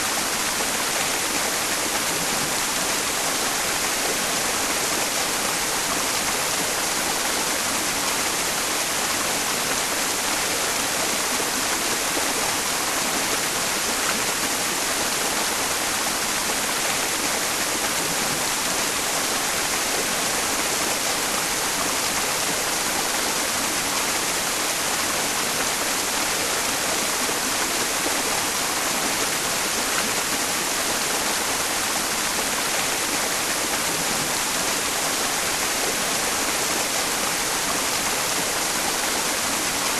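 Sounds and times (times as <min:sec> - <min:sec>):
mountain stream running: 0:00.0 - 0:39.9.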